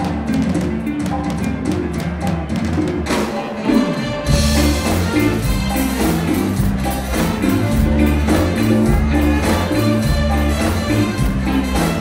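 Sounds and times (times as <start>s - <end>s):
drums: 0.0s - 12.0s
funk rock band playing live: 0.0s - 12.0s.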